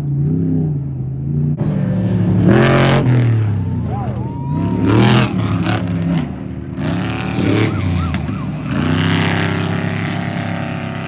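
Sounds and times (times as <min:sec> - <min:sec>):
race truck engines revving: 0:00.0 - 0:11.0.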